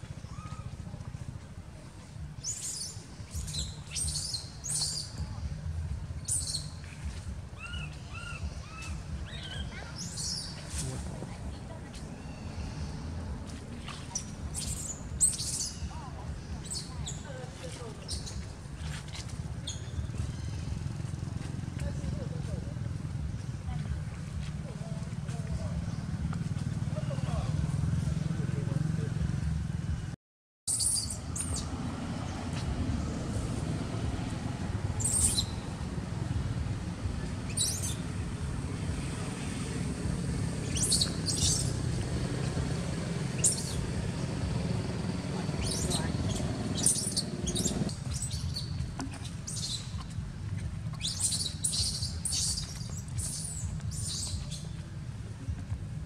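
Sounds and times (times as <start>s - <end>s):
low outdoor rumble: 0.0s - 30.2s, 30.8s - 56.0s.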